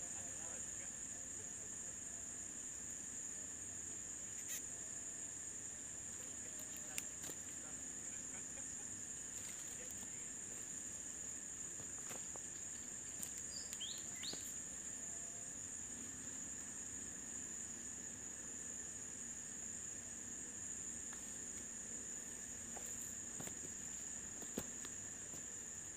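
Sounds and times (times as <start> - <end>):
crickets chirping chorus: 0.0 - 25.9.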